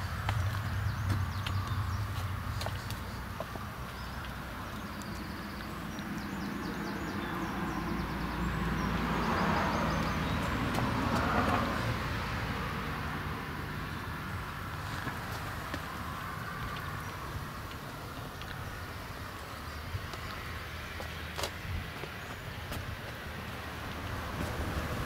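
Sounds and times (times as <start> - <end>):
motor vehicle noise: 0.0 - 25.0.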